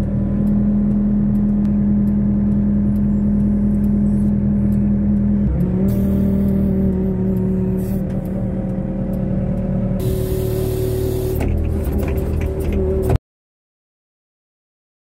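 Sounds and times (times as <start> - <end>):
diesel engine running: 0.0 - 13.2.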